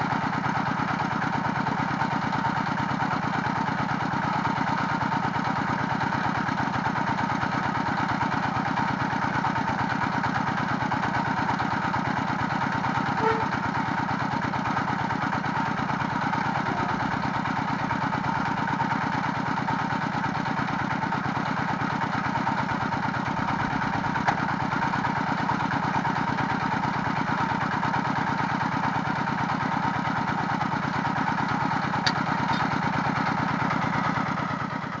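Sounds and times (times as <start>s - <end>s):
drilling rig engine running: 0.0s - 35.0s.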